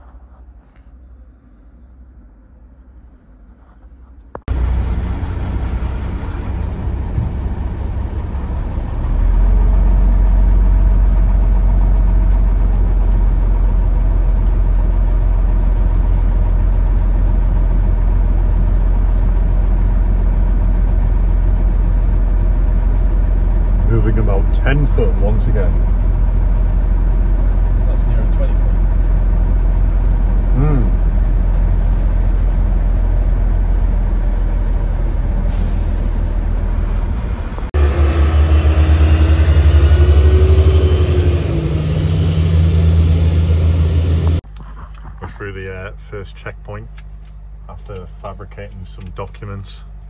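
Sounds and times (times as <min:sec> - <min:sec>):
diesel engine rumbling: 0:00.0 - 0:50.0.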